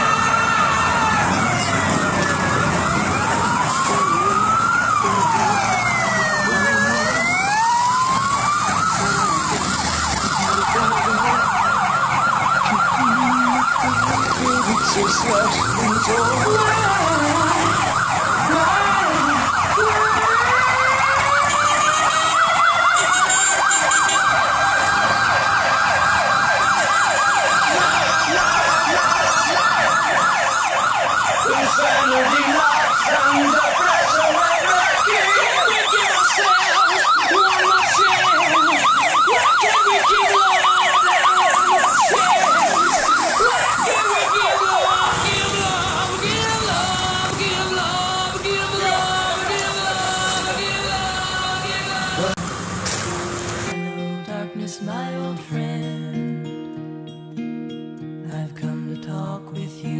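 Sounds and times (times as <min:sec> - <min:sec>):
siren climbing and holding: 0:00.0 - 0:52.4
siren yelping: 0:00.0 - 0:52.4
siren wailing: 0:00.0 - 0:52.5.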